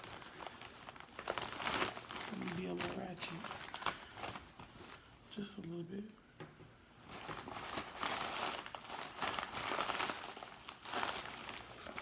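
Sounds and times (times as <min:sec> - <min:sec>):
packaging crinkling and rustling: 0:00.0 - 0:05.2, 0:07.0 - 0:12.0.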